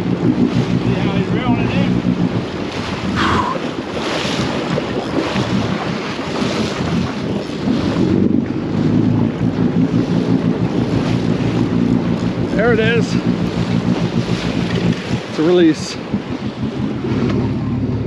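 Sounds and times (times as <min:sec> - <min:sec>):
boat engines humming: 0:00.0 - 0:18.0
water washing around hull: 0:00.0 - 0:18.0
wind buffeting microphone: 0:00.0 - 0:18.0.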